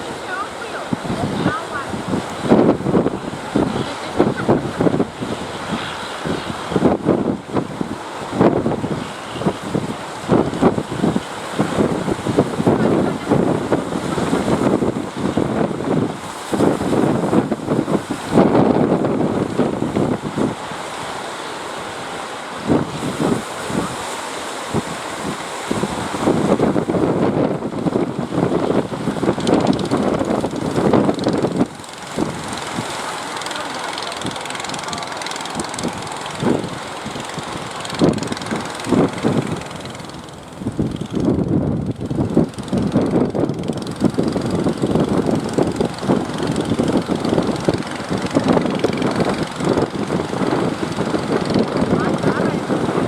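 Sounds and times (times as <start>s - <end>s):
boat engine rough drone: 0.0s - 53.0s.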